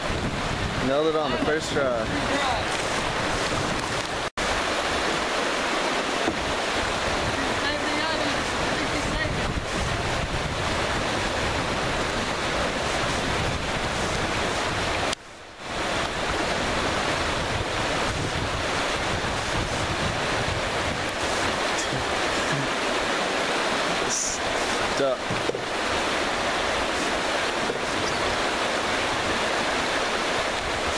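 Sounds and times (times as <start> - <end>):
river current rushing: 0.0 - 30.9
wind buffeting microphone: 0.0 - 30.9.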